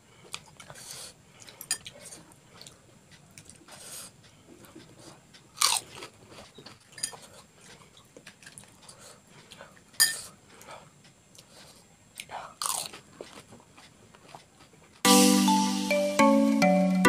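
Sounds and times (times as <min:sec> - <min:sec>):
wet chewing: 0:00.3 - 0:10.7, 0:11.3 - 0:15.0.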